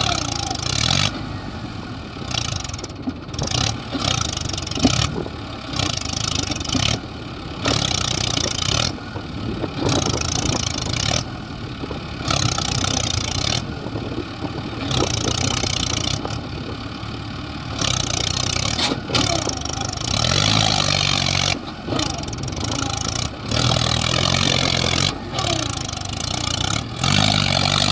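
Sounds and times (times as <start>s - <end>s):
heavy diesel engines running: 0.0s - 27.9s.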